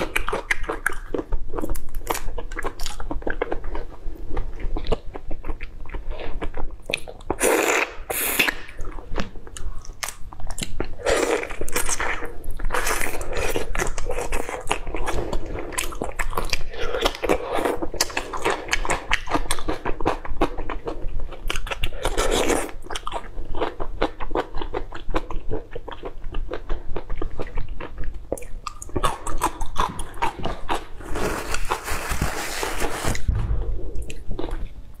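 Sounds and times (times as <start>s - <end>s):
biting and crunching food: 0.0s - 33.4s.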